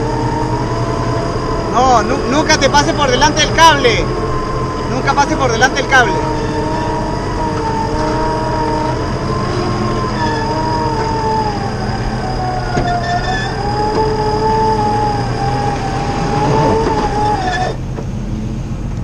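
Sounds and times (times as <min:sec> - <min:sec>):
engine revving hard: 0:00.0 - 0:17.8
wheels spinning in sand: 0:00.0 - 0:17.9.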